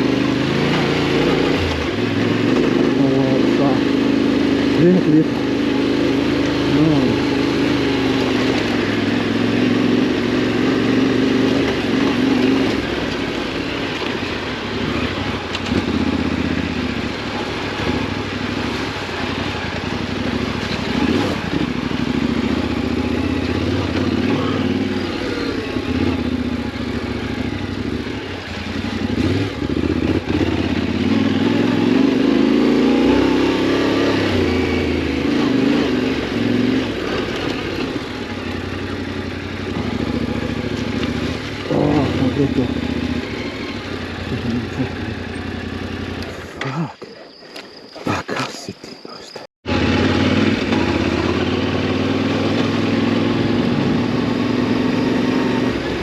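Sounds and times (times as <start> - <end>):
motorcycle engine revving: 0.0 - 47.2, 49.6 - 56.0.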